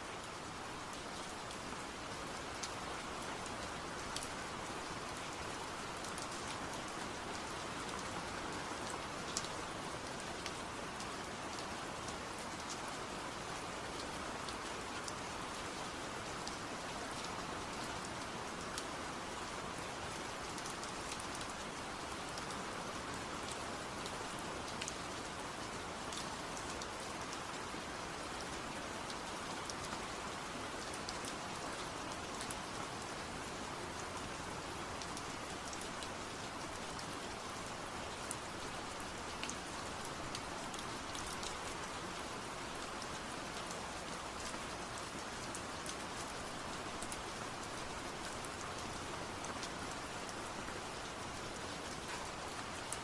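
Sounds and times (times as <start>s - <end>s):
steady rain hiss: 0.0s - 53.0s
raindrops ticking on a surface: 0.2s - 53.0s.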